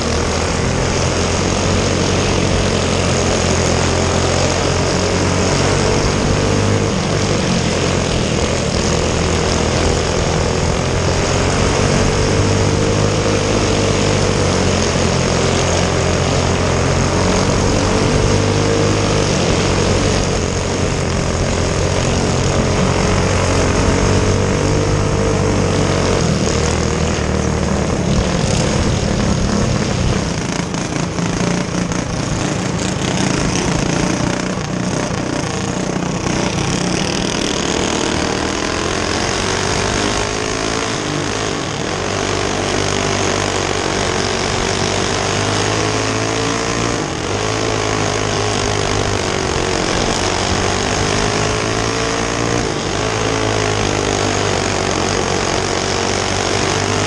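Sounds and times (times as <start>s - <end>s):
go-kart engines buzzing: 0.0s - 57.0s.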